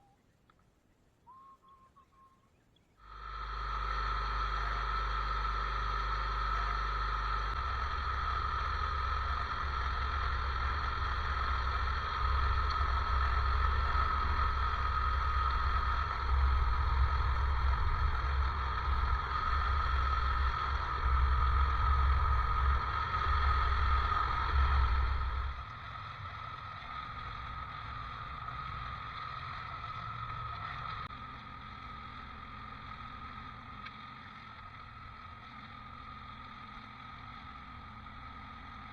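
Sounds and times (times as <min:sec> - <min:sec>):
tractor engine whining and rumbling: 0:03.0 - 0:38.9.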